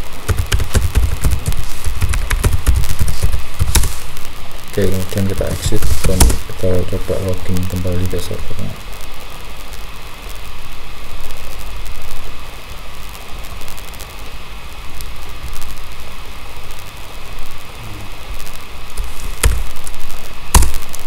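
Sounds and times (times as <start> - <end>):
even hiss: 0.0 - 21.0.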